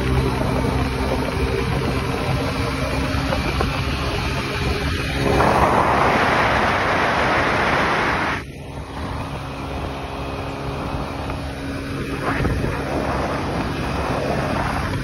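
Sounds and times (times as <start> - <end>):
road noise: 0.0 - 15.0
scooter engine hum: 0.0 - 15.0
wind rushing on microphone: 0.0 - 15.0.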